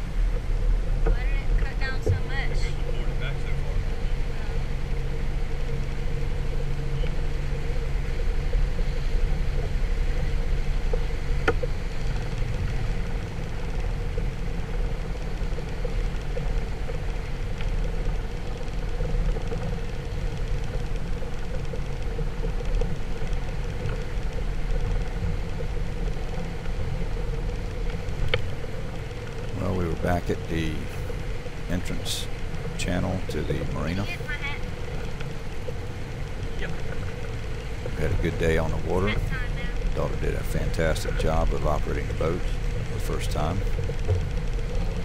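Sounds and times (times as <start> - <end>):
motorboat engine running: 0.0 - 45.0.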